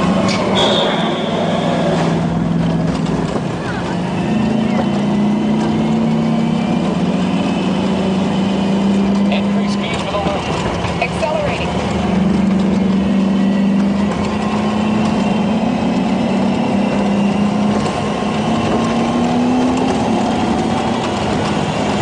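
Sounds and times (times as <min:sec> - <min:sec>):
ride vehicle hum: 0:00.0 - 0:22.0
rushing wind and wheels: 0:00.0 - 0:22.0.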